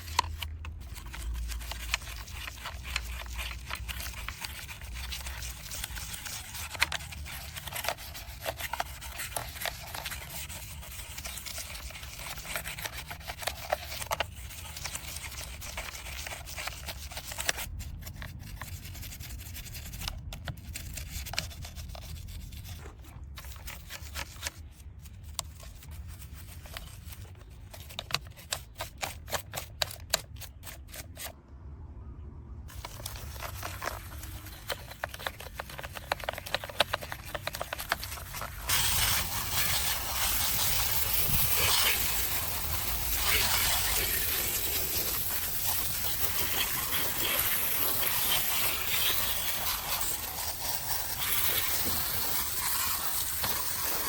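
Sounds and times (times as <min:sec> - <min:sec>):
scrubbing on toy truck: 0:00.0 - 0:31.4, 0:32.7 - 0:54.0.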